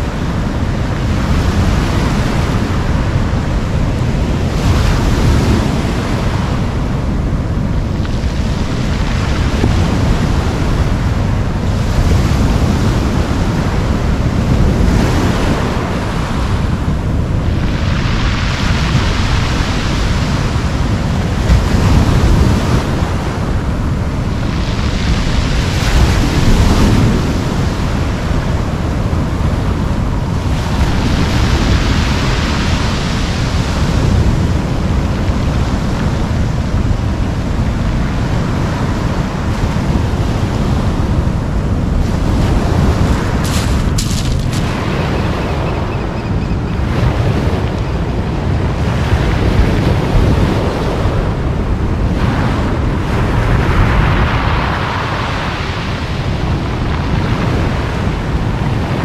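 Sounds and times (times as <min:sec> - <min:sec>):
surf breaking on cobble beach: 0:00.0 - 0:59.0
wind rumble on microphone: 0:00.0 - 0:59.0.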